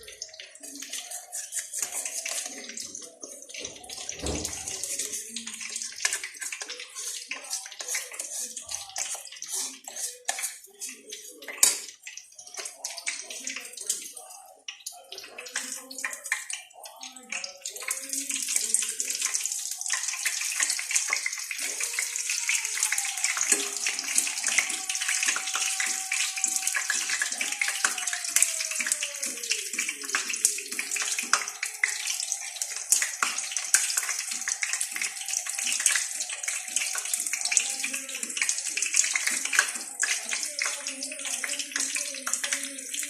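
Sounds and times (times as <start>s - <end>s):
hot oil sizzling and popping: 0.0s - 43.0s.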